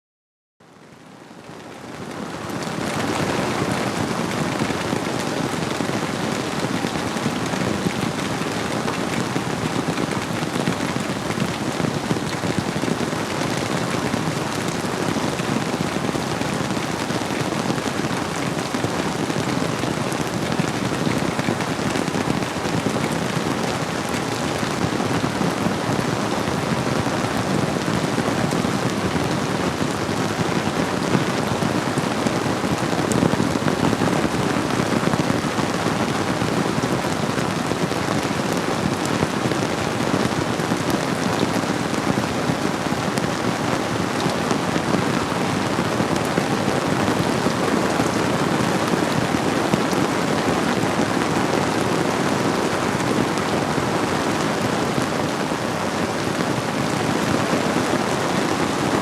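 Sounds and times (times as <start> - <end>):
steady rainfall: 0.6 - 59.0
flowing river: 1.8 - 59.0.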